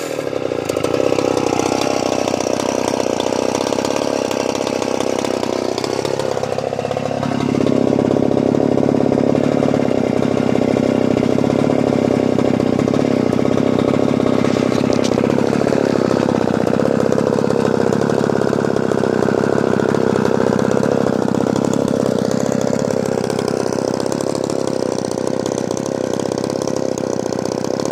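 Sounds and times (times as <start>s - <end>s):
chainsaw engine running: 0.0s - 27.9s.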